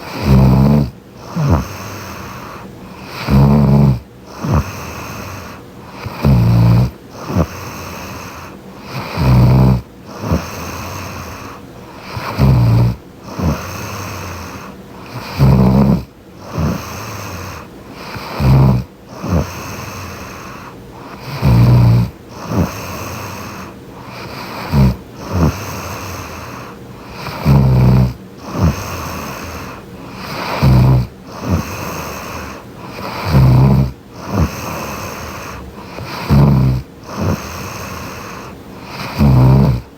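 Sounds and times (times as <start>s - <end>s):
soft breathing: 0.0s - 39.9s
woman snoring: 0.0s - 39.9s.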